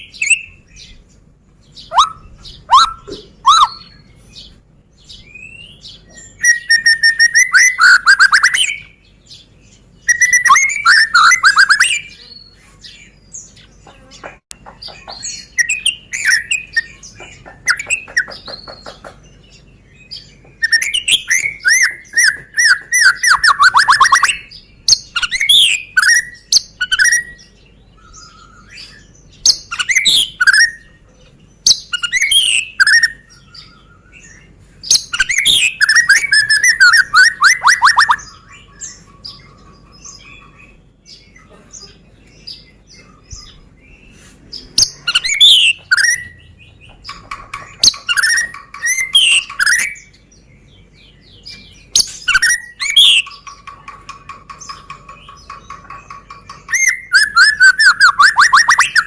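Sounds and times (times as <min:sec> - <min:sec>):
bird singing whistles and trills: 0:00.0 - 0:01.1, 0:01.7 - 0:13.7, 0:15.0 - 0:19.0, 0:19.6 - 0:31.0, 0:31.6 - 0:41.4, 0:42.4 - 0:59.0.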